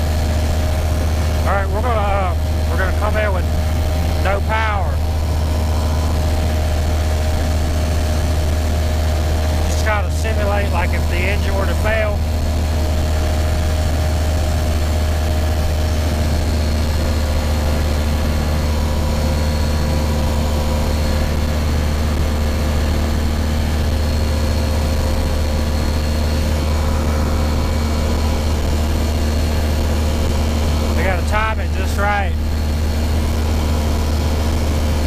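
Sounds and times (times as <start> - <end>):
aircraft engine and propeller droning: 0.0 - 35.0.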